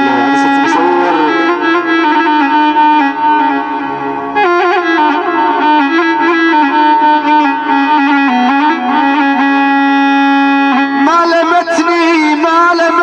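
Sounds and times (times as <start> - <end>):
electronic keyboard melody: 0.0 - 13.0.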